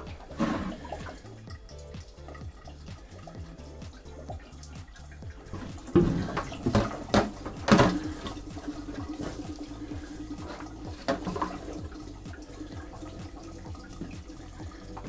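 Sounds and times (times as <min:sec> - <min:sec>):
pipe knocks: 0:00.0 - 0:15.0
steady hum: 0:00.0 - 0:15.0
water running in pipes: 0:00.0 - 0:15.0.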